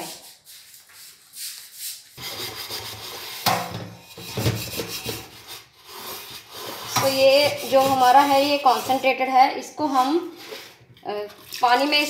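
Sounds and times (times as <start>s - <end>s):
scrubber scraping a pot: 1.3s - 12.0s.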